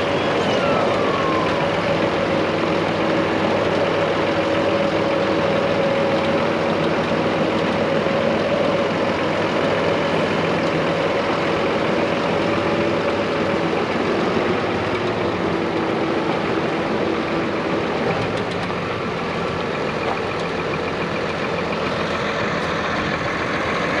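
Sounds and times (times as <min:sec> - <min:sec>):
held whine: 0:00.0 - 0:24.0
tractor diesel engine idling: 0:00.0 - 0:24.0.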